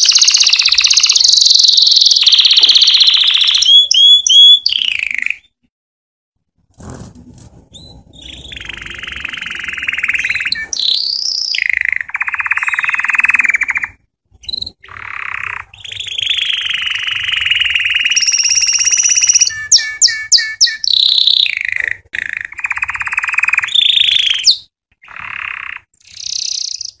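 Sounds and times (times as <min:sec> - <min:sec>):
canary singing: 0:00.0 - 0:05.6, 0:07.4 - 0:27.0.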